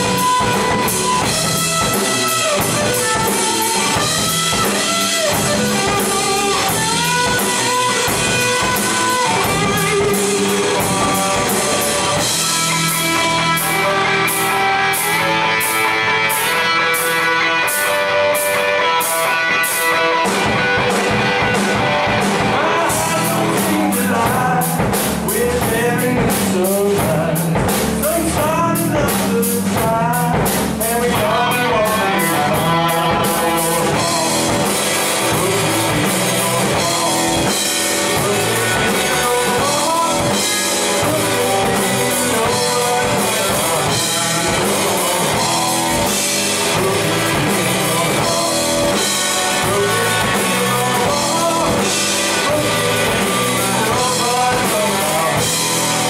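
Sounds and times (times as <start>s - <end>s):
drum kit with cymbals: 0.0s - 56.0s
electric guitar: 0.0s - 56.0s
person singing: 0.0s - 56.0s.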